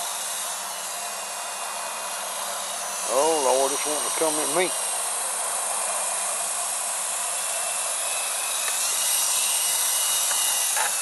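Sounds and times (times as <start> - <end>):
toy helicopter motor whirring: 0.0 - 11.0.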